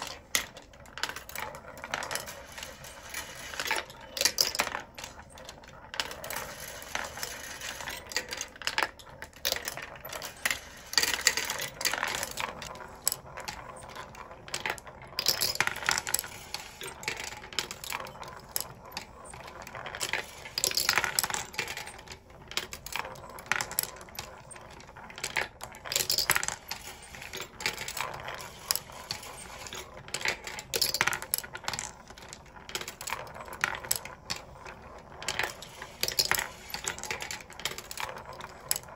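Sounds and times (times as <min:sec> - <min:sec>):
marbles clattering on wooden tracks: 0:00.0 - 0:38.9.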